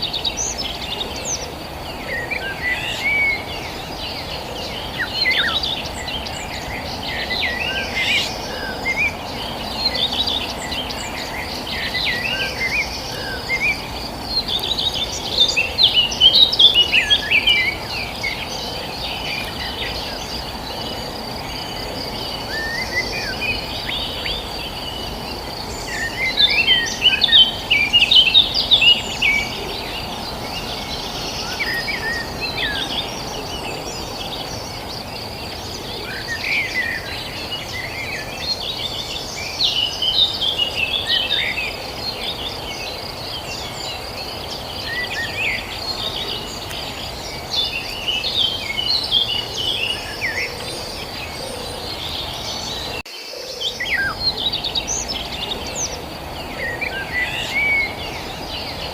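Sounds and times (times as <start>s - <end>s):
low countryside hiss: 0.0s - 58.9s
small birds chirping: 0.0s - 58.9s.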